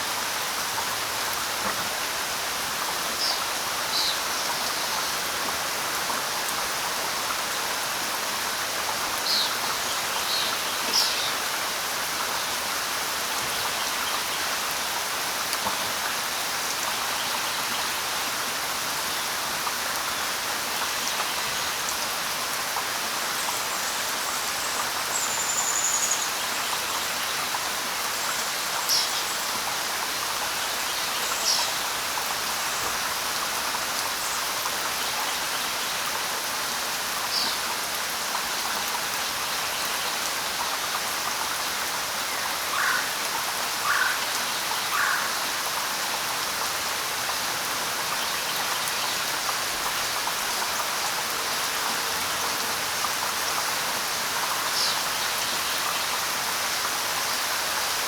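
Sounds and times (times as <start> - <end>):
light rain on leaves: 0.0 - 58.0.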